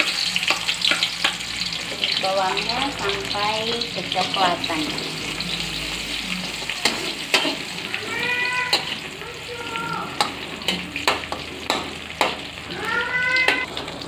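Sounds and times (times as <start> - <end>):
shallots sizzling in oil: 0.0 - 14.0.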